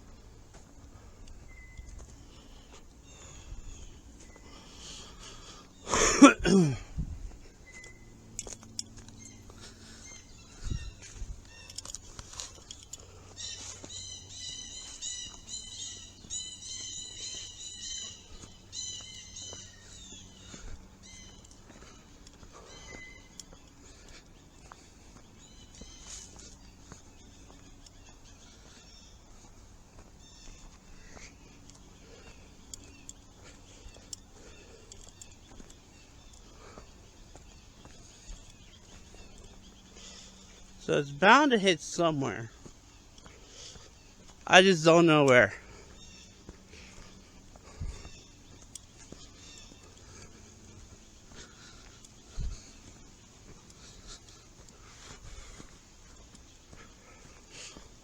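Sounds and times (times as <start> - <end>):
light footsteps: 0.0 - 5.7, 6.8 - 58.0.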